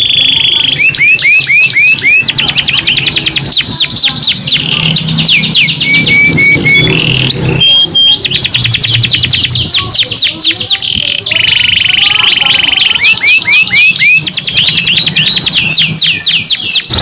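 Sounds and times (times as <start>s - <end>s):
canaries singing: 0.0s - 17.0s.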